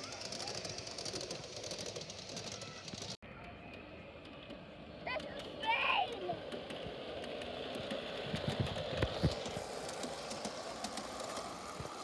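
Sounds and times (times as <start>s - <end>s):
model train rumbling: 0.0s - 12.0s.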